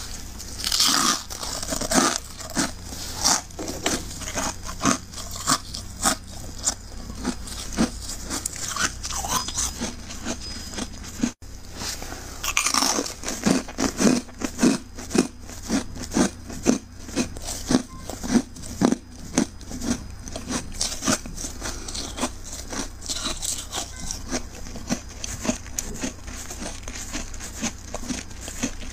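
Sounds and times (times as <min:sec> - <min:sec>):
ice crunching being chewed: 0:00.0 - 0:11.4, 0:12.2 - 0:28.9.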